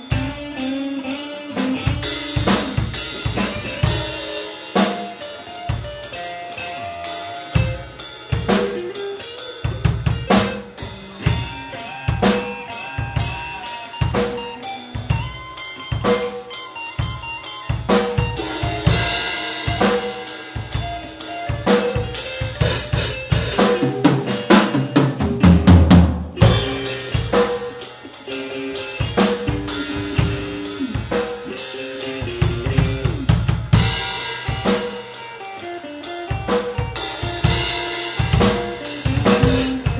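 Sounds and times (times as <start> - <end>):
busy drumming: 0.0 - 39.9
guitar playing bent notes: 0.0 - 39.9.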